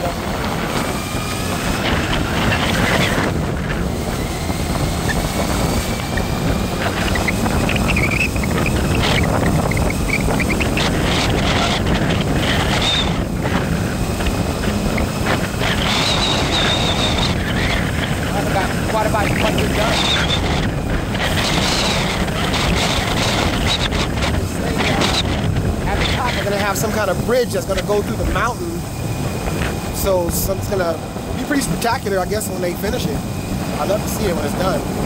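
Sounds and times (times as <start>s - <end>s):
vehicle road and wind noise: 0.0s - 35.0s.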